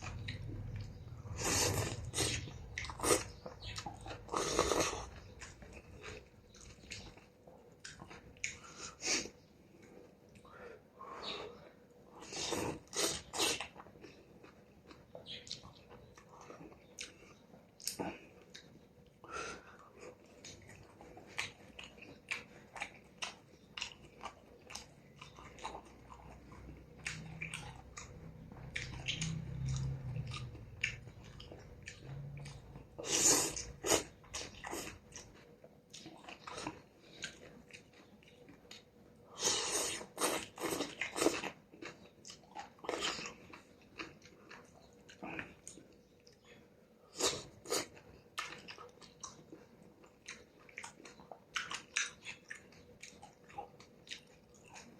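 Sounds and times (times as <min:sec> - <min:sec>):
person chewing noodle soup: 0:00.0 - 0:54.9.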